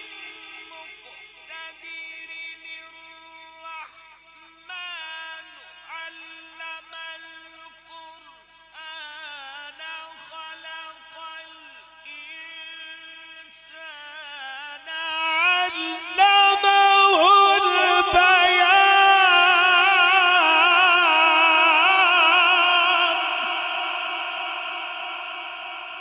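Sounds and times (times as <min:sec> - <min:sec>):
man reciting melodically: 0:00.6 - 0:26.0.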